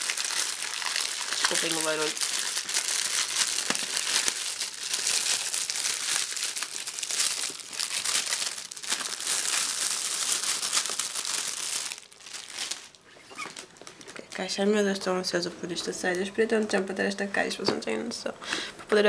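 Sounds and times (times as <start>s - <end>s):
plastic wrapping crinkling: 0.0s - 16.8s.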